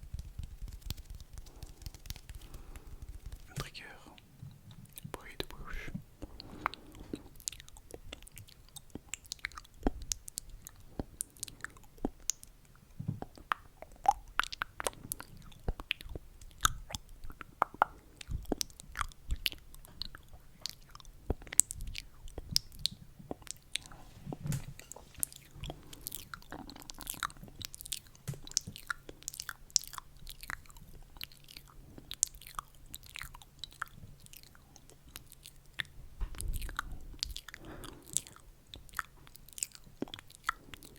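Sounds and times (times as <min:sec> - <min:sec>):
wet mouth clicks and smacks: 0:00.0 - 0:40.9.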